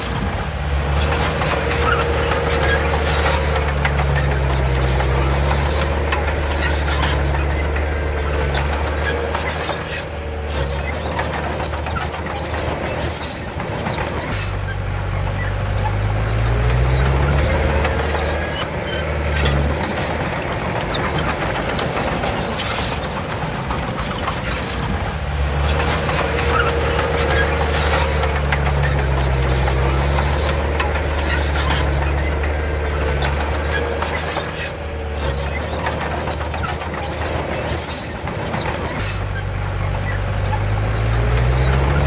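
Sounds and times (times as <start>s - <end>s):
bulldozer diesel engine revving: 0.0s - 42.0s
thin steady squeal: 0.0s - 42.0s
track clanks: 0.0s - 42.0s.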